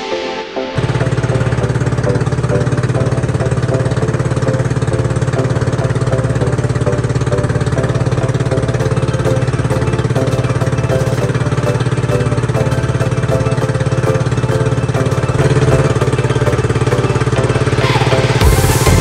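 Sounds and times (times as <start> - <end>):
boat engine puttering: 0.8 - 19.0.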